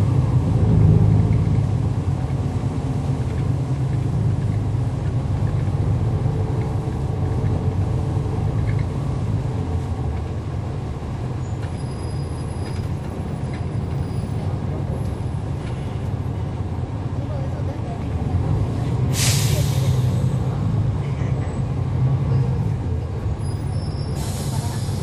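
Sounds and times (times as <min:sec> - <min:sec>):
bus diesel engine rumble: 0:00.0 - 0:25.0.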